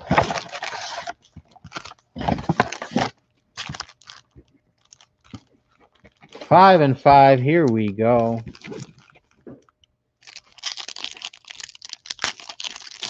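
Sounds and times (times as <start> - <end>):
foil packaging crinkling: 0.0 - 6.5, 8.2 - 9.5, 10.2 - 13.0.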